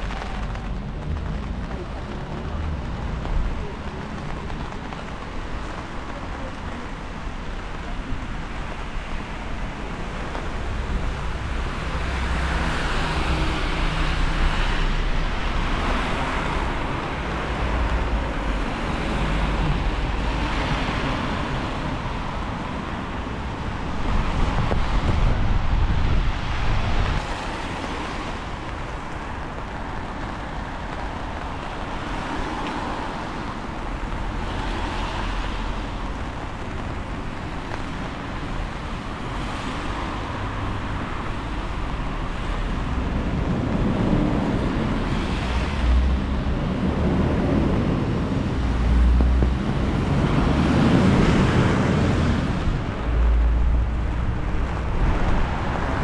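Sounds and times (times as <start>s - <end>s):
cars passing on wet road: 0.0s - 56.0s
wind rumble on microphone: 0.0s - 56.0s.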